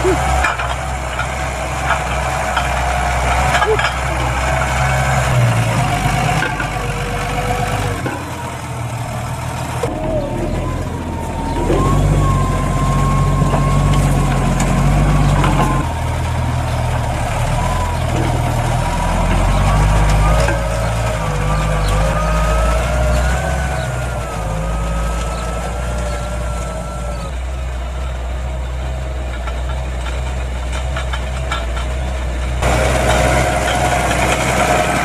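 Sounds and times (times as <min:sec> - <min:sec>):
tractor engine under load: 0:00.0 - 0:35.0.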